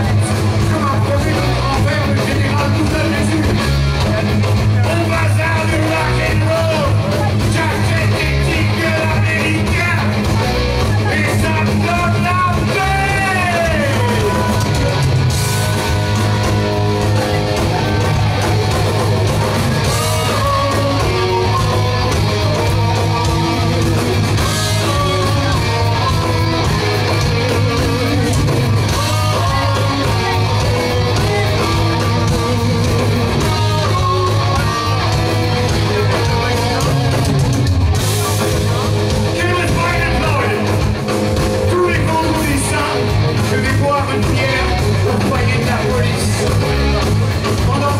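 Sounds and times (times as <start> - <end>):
person singing: 0.0 - 19.1, 19.8 - 37.6, 41.6 - 46.8
live rock band playing: 0.0 - 47.9.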